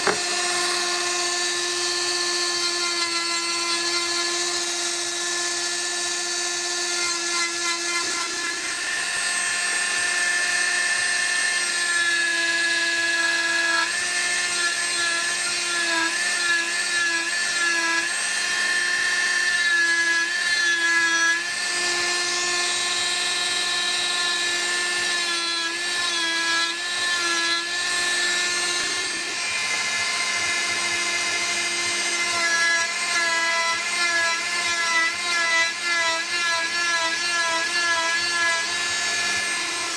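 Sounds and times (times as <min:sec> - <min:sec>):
rotary tool grinding wood: 0:00.0 - 0:39.9.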